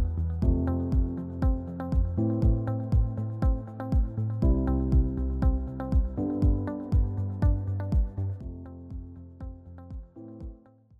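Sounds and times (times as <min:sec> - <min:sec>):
electronic music with drum beat: 0:00.0 - 0:10.6.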